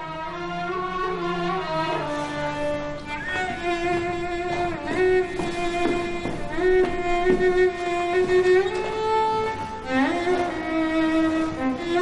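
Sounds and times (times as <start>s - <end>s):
bowed strings holding long notes: 0.0s - 12.0s.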